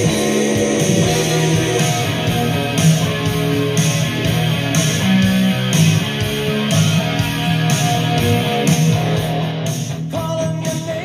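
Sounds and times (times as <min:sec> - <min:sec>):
rock song through speaker: 0:00.0 - 0:11.0.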